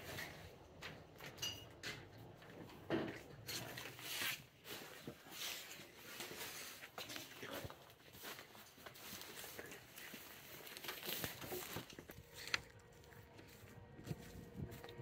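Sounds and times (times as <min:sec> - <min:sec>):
rustling and crinkling handling: 0:00.0 - 0:15.0.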